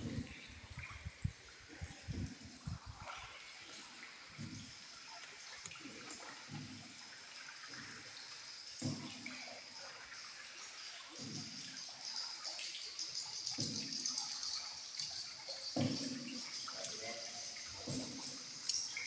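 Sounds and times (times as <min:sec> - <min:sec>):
water sloshing and trickling: 0:00.0 - 0:19.0.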